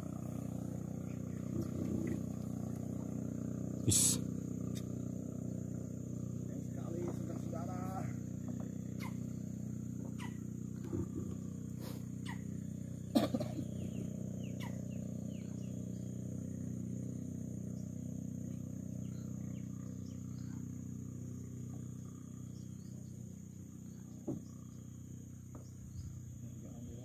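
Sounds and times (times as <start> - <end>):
high insect buzz: 0.0 - 27.0
low drone: 0.0 - 27.0.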